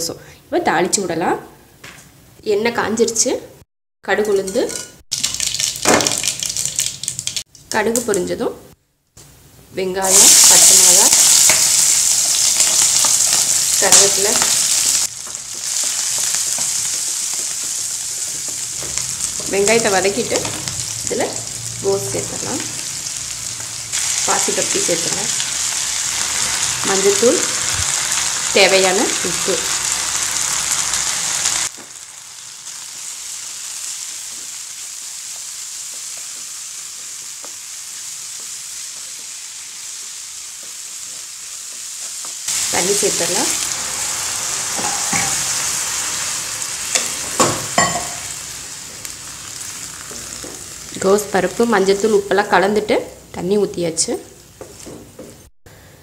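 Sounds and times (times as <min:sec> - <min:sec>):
shallots sizzling in hot oil: 0:04.2 - 0:08.3, 0:09.8 - 0:54.9.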